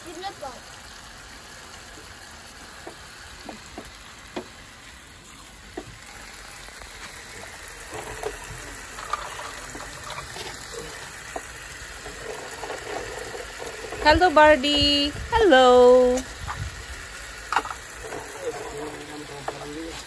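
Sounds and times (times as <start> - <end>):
water running and splashing: 0.0 - 20.0.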